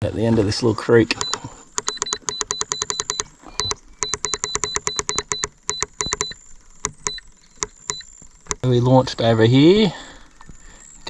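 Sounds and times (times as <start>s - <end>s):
rapid mechanical clicking: 0.6s - 11.0s.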